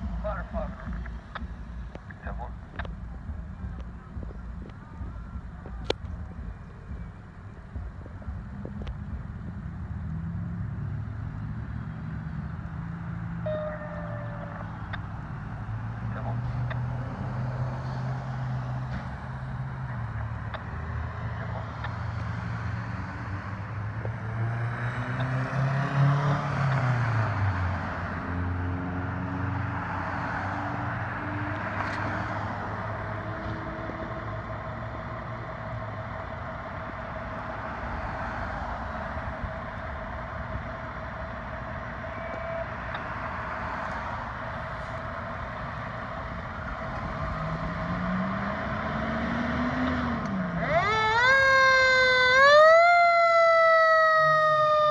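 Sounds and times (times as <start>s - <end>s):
vehicle engines running: 0.0s - 54.9s
vehicle passing loudly: 9.0s - 54.9s.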